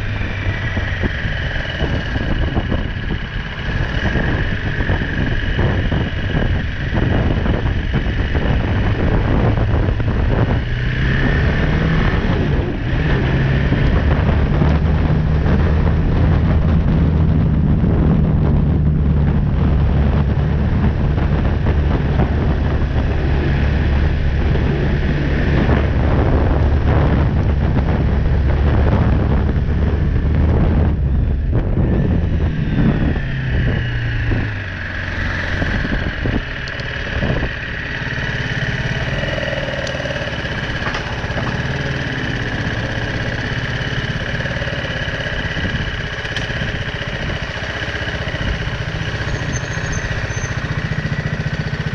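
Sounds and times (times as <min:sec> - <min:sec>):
motorcycle engine accelerating: 0:00.0 - 0:51.9
wind rushing over microphone: 0:00.0 - 0:51.9.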